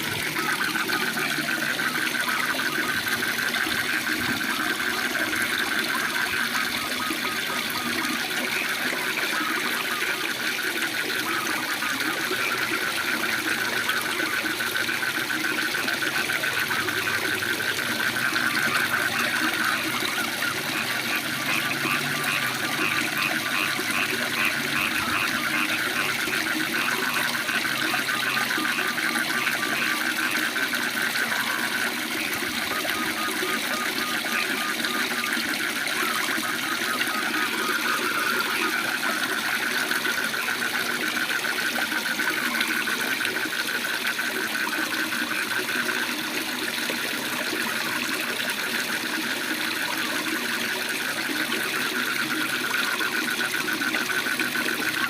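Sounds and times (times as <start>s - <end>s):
frogs trilling: 0.0s - 55.0s.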